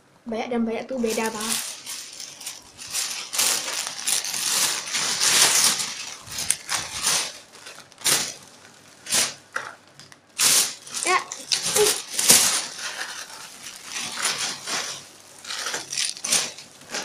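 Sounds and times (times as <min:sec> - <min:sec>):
plastic bag rustling: 0:01.0 - 0:17.0.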